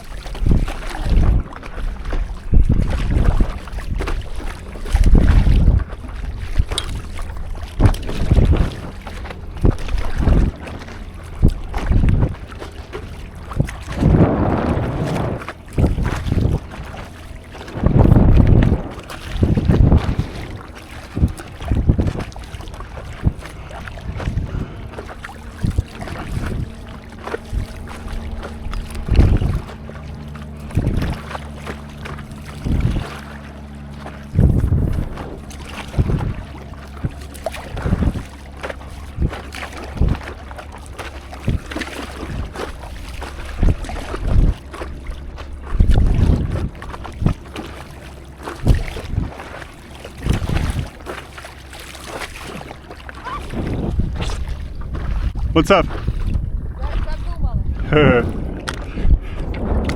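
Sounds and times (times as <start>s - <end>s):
low steady hum: 0.0s - 59.9s
paddle splashing in water: 0.0s - 59.9s
wind on microphone: 0.0s - 59.9s.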